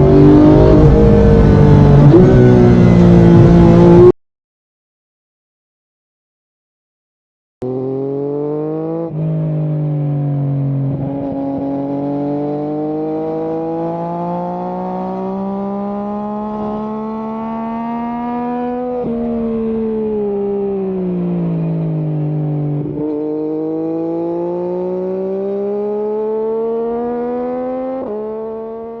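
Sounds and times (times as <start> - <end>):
motorcycle engine accelerating: 0.0 - 4.2, 7.6 - 29.0.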